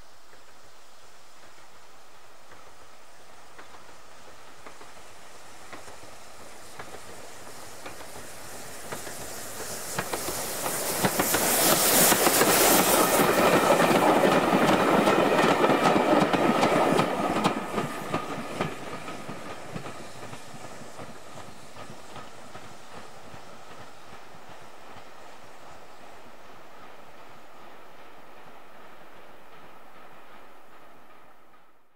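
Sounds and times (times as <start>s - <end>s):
steam train passing: 0.0s - 31.9s
clickety-clack of wheels on rail joints: 2.4s - 31.8s.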